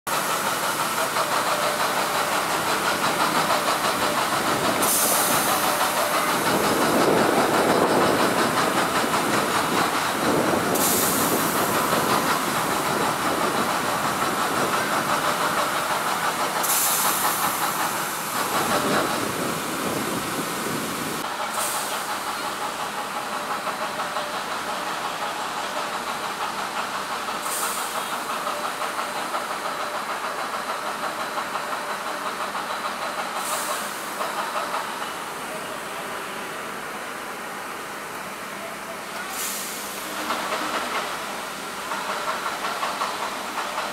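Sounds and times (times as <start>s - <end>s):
fire truck pump engines: 0.1s - 43.9s
hiss of high-pressure water: 0.1s - 43.9s.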